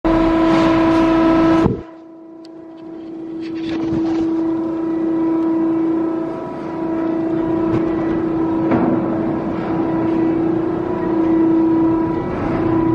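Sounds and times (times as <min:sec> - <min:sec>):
hydraulic power unit whining hum: 0:00.0 - 0:12.9.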